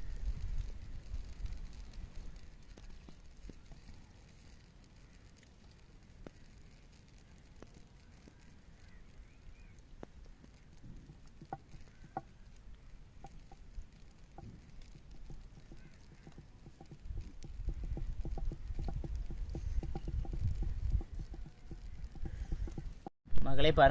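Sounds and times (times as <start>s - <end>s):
rustling: 0.0s - 23.1s
tamarind pods clicking and crackling: 0.0s - 23.1s.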